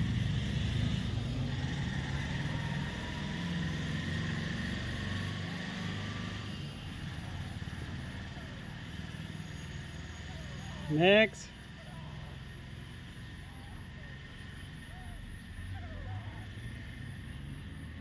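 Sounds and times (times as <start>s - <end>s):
low motor rumble: 0.0s - 3.8s, 6.5s - 18.0s.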